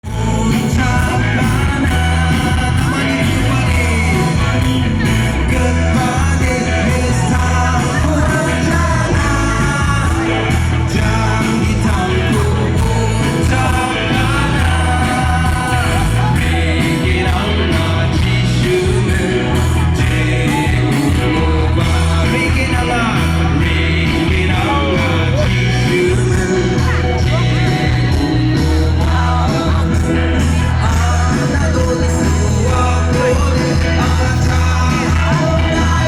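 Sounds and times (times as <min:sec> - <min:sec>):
loud music with singing: 0:00.0 - 0:36.0
steady bass beat: 0:00.0 - 0:36.0.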